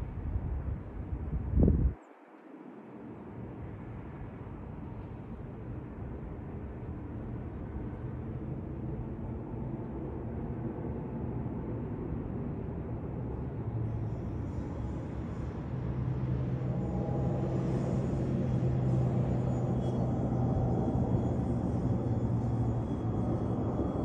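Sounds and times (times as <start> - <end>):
jet engine rumble overhead: 0.0 - 24.0
low hum: 3.0 - 24.0.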